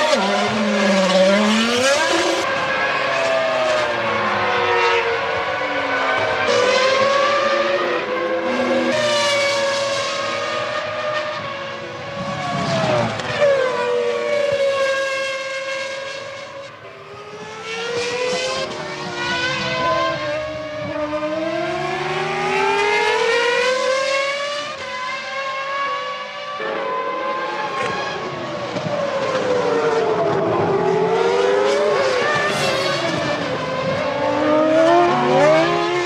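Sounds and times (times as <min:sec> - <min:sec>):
racing car engines at high revs: 0:00.0 - 0:36.0.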